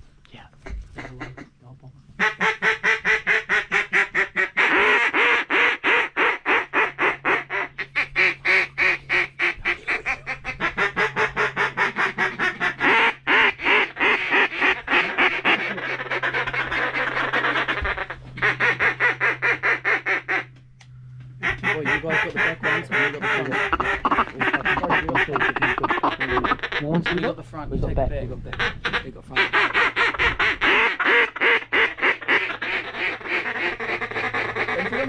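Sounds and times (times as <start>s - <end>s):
steady low hum: 0.0s - 35.0s
duck call quacks: 0.6s - 1.5s, 2.2s - 20.6s, 21.4s - 27.4s, 28.5s - 35.0s.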